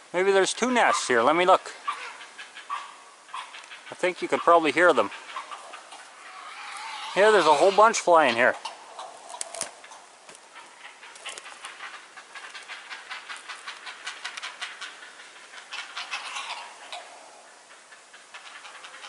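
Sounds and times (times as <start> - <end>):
herons calling: 0.0 - 19.0.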